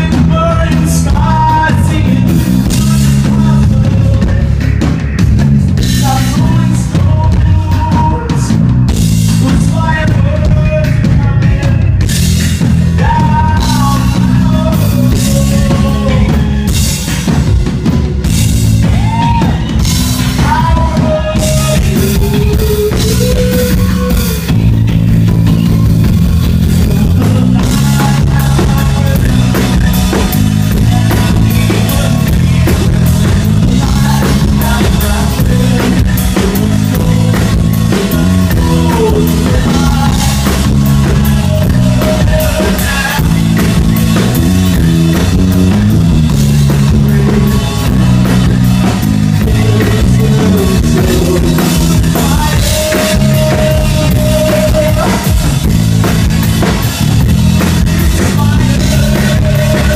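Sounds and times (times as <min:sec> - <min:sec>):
driving drum kit: 0:00.0 - 0:59.9
live rock band playing: 0:00.0 - 0:59.9
sustained bass: 0:00.0 - 0:59.9.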